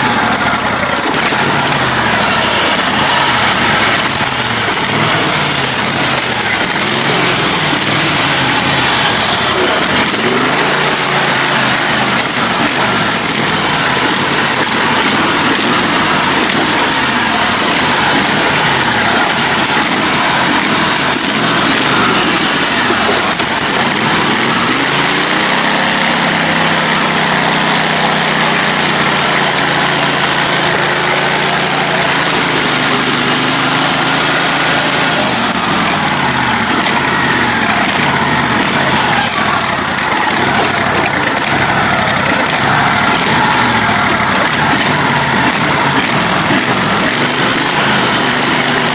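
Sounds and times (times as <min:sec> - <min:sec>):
riding lawn mower engine running: 0:00.0 - 0:48.9.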